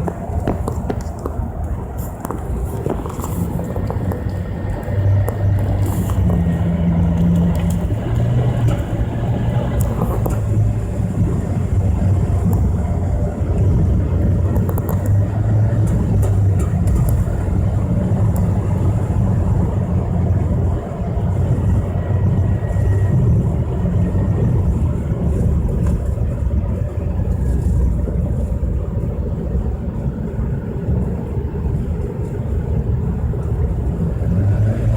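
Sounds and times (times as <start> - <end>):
recording crackle: 0.0 - 29.6
abnormal engine noise: 0.0 - 34.9
car engine revving while driving: 2.5 - 34.9.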